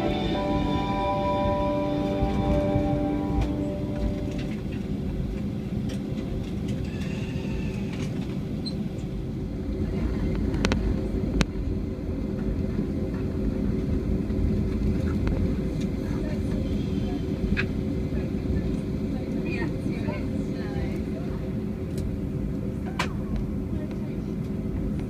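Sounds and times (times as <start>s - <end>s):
idling jet engines rumble: 0.0s - 25.0s.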